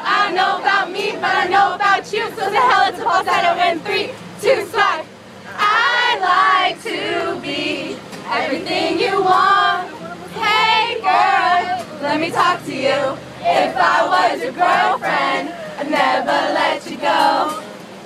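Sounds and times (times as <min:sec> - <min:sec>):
acoustic guitar: 0:00.0 - 0:18.0
voices singing along: 0:00.0 - 0:18.0.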